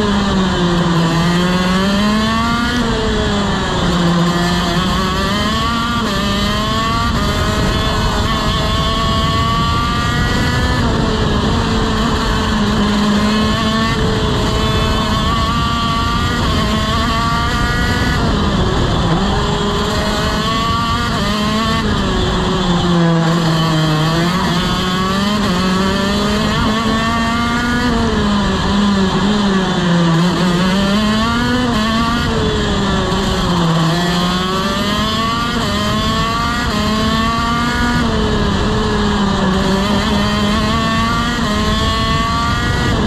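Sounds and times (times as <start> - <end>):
kart engine at race speed: 0.0 - 43.0.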